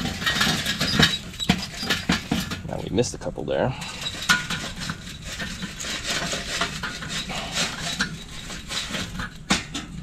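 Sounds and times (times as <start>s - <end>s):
charcoal clattering against metal: 0.0s - 10.0s.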